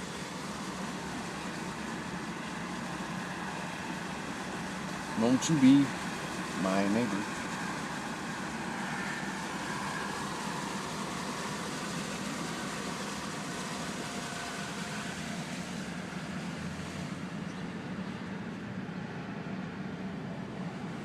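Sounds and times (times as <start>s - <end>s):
vehicle engine: 0.0s - 21.0s.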